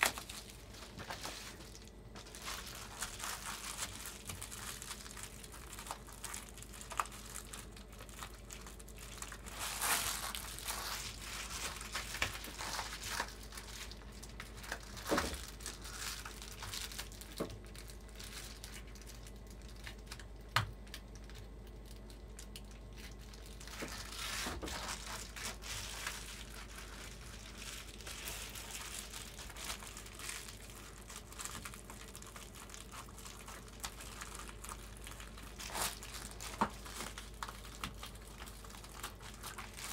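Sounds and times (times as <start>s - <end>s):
foil bubble wrap crinkling: 0.0s - 39.9s.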